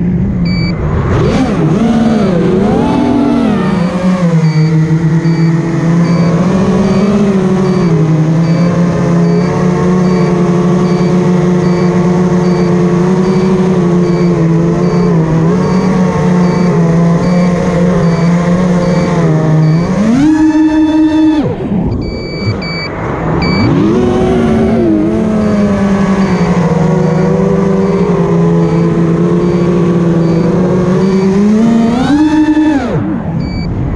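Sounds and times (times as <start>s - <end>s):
drone motors whining: 0.0s - 33.9s
high repeating beep: 0.4s - 0.8s, 2.1s - 23.8s, 24.9s - 32.8s, 33.4s - 33.7s.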